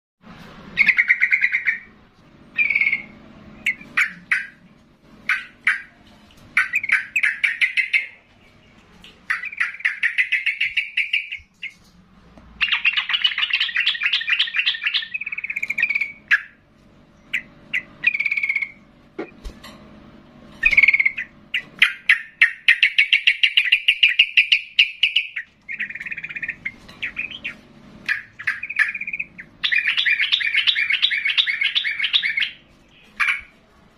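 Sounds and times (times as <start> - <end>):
faint low hum: 0.2 - 33.9
bulbul chattering song: 0.8 - 11.9, 12.6 - 19.4, 20.6 - 33.6.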